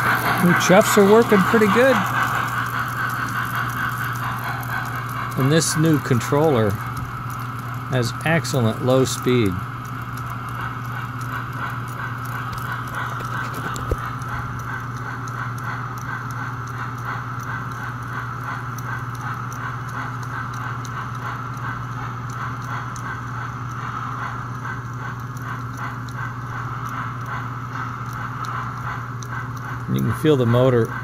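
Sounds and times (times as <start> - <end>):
electric motor hum and whir: 0.0 - 31.0
toy locomotive steam chuff: 0.0 - 31.0.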